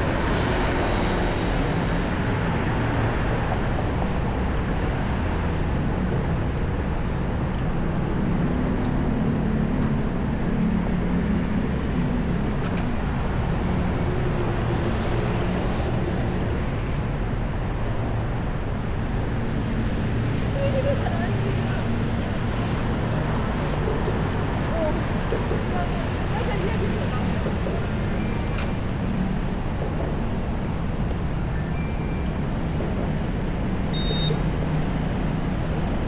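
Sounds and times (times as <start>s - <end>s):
road traffic drone: 0.0s - 36.0s.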